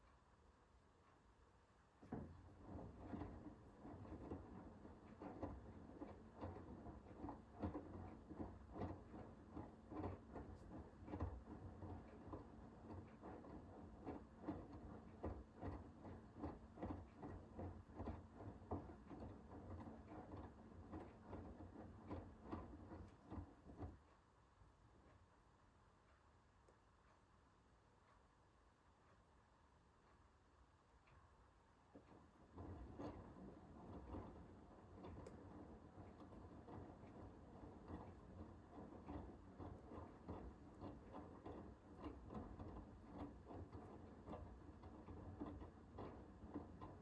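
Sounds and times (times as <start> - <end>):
washing machine motor hum: 1.0 - 26.0, 30.3 - 47.0.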